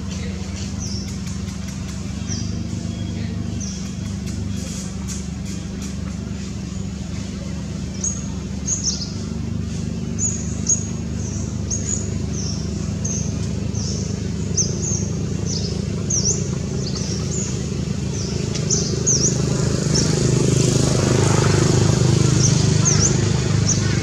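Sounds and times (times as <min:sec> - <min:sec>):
low engine-like hum: 0:00.0 - 0:24.0.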